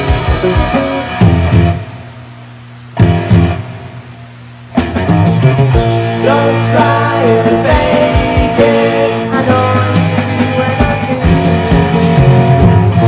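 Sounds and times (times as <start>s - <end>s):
bass guitar: 0.0s - 2.2s, 2.9s - 13.0s
drums: 0.0s - 13.0s
electric guitar melody with bends: 0.0s - 13.0s.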